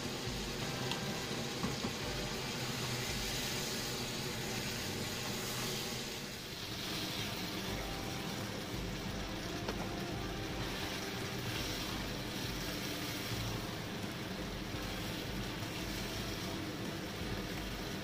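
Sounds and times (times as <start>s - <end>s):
sauce cooking in a wok: 0.0s - 18.0s.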